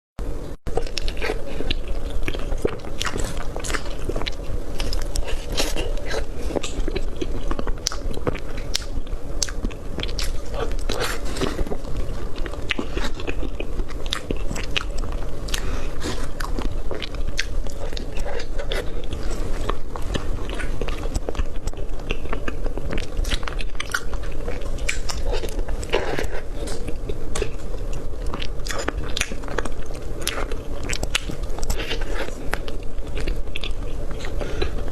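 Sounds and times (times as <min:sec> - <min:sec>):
steady low hum: 0:00.2 - 0:34.9
biting and chewing: 0:00.7 - 0:34.9.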